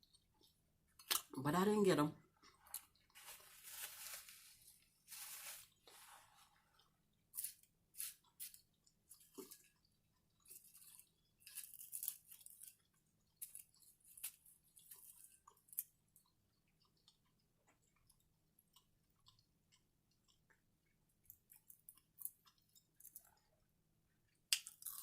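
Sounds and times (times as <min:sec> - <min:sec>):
person chewing crunchy food: 0:02.2 - 0:25.0.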